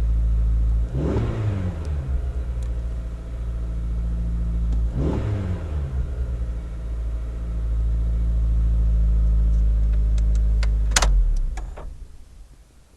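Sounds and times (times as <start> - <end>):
car engine idling: 0.0 - 1.1, 1.7 - 12.9.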